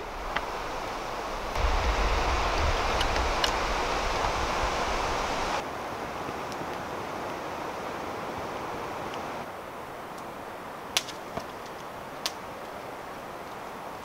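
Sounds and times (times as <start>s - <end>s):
campfire hissing: 0.0s - 14.0s
fire crackles: 0.0s - 14.0s.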